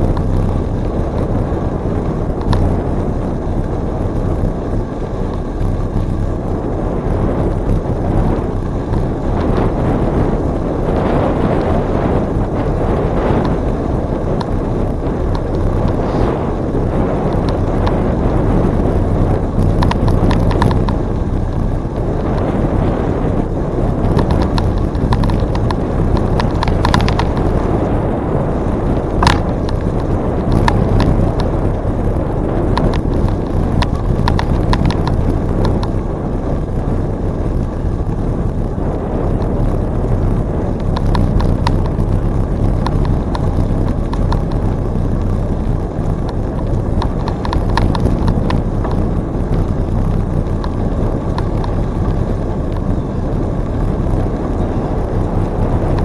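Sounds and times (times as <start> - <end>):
bike clicks and rattles: 0.0 - 56.0
wind rumble on microphone: 0.0 - 56.0.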